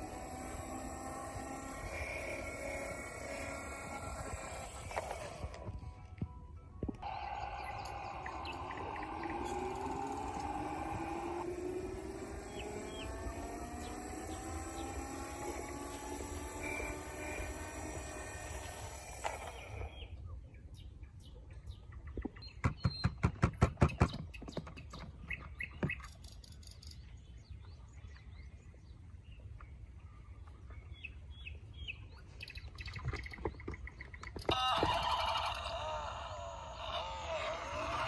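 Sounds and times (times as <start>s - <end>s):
birds chirping: 6.8s - 38.0s.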